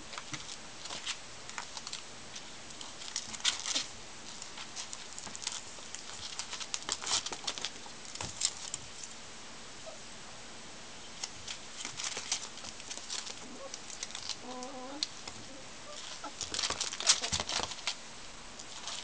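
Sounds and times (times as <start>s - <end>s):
ferret paws scuffling: 0.0s - 9.2s, 11.2s - 18.0s, 18.6s - 19.0s.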